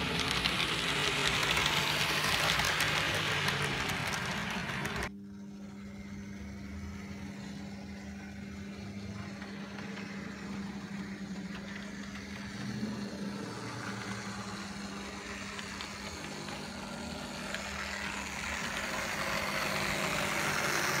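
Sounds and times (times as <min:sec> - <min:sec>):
model locomotive running: 0:00.0 - 0:21.0
steady engine-like hum: 0:00.0 - 0:21.0.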